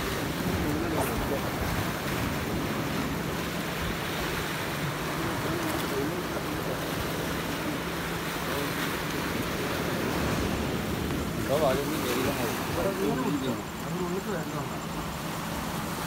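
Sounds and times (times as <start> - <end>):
wind on microphone: 0.0 - 13.9
sea waves rushing: 0.0 - 16.0.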